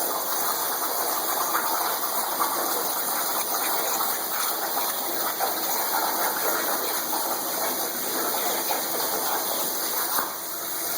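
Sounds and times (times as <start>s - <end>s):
underwater torch bubbling rush: 0.0s - 10.9s.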